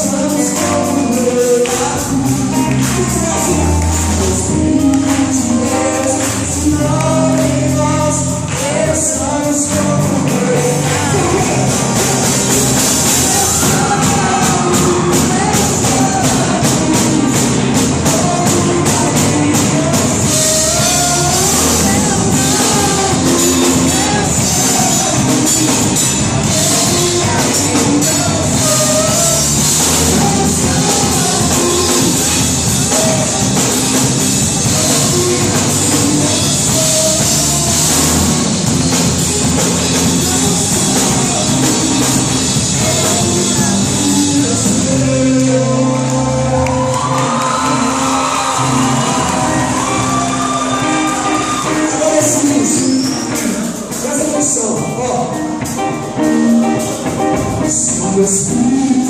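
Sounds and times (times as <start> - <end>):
people singing: 0.0 - 55.4, 56.2 - 59.0
gospel band playing: 0.0 - 59.0.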